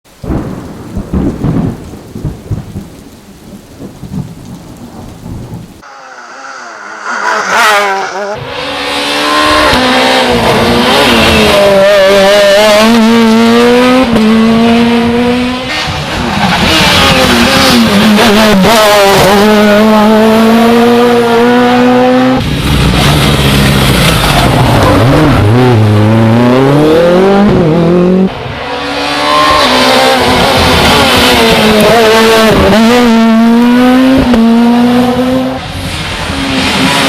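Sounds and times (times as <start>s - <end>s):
rally car engine revving: 5.9s - 37.0s.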